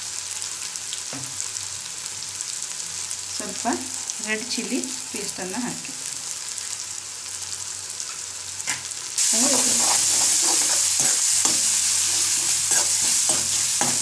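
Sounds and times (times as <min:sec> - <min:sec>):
masala sizzling in oil: 0:00.0 - 0:14.0.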